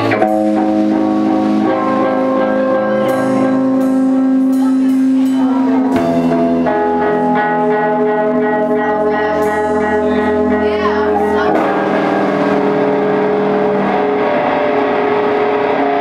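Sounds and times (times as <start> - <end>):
drum and cymbal hits: 0.0 - 16.0
electric guitar chords ringing: 0.0 - 16.0.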